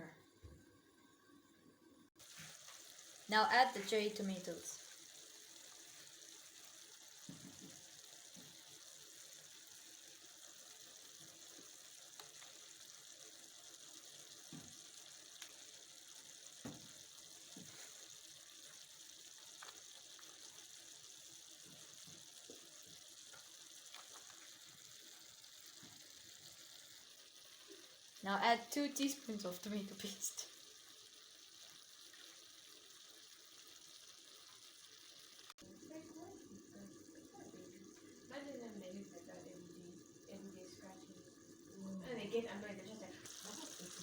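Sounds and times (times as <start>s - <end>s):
faint sizzling in a pan: 0.0s - 44.0s.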